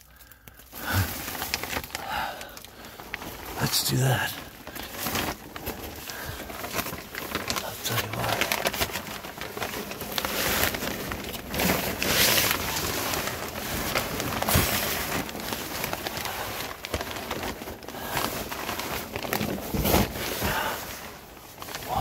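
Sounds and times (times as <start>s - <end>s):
plastic sheeting crinkling: 0.0s - 22.0s.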